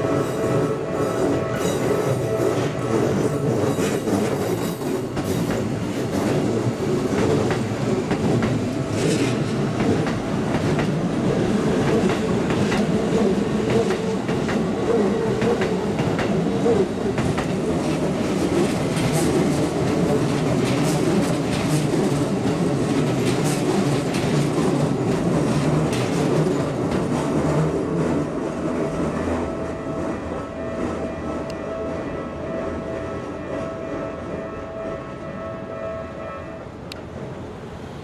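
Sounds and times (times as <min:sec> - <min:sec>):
train passing with rumble: 0:00.0 - 0:38.0.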